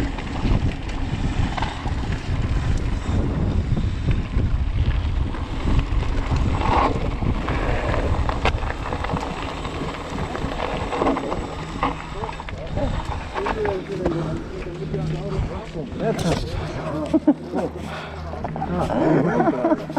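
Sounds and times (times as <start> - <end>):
wind buffeting microphone: 0.0 - 17.0
tyres rattling on gravel: 0.0 - 19.9.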